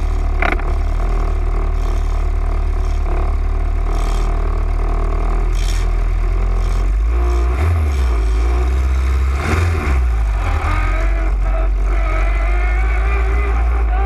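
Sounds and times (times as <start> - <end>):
race car engine at low revs: 0.0 - 14.0.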